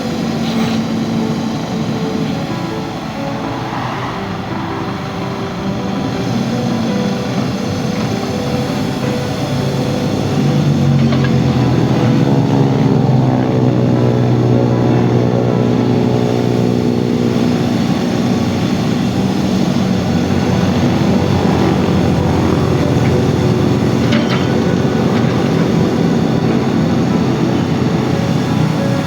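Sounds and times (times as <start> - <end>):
large engine running: 0.0 - 29.0.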